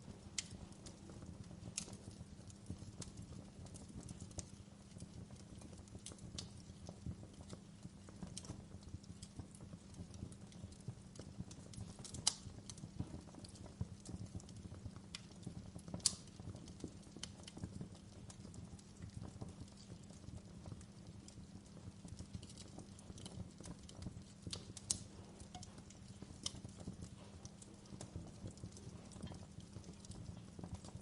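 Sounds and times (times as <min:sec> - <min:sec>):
sharp pops of fire: 0:00.0 - 0:31.0
wood fire crackling: 0:00.0 - 0:31.0.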